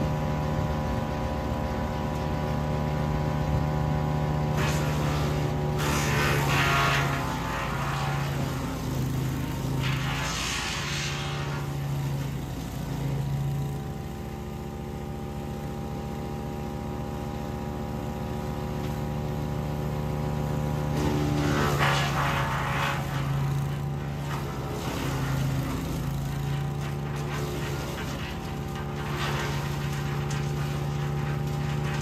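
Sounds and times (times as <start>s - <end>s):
wood chipper engine running: 0.0s - 32.0s.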